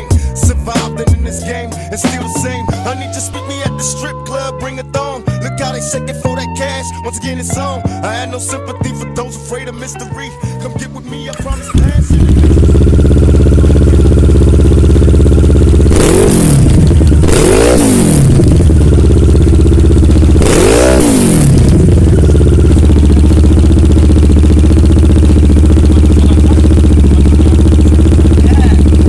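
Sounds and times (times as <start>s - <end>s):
motorcycle engine idling and revving: 0.0s - 9.0s, 10.1s - 29.0s.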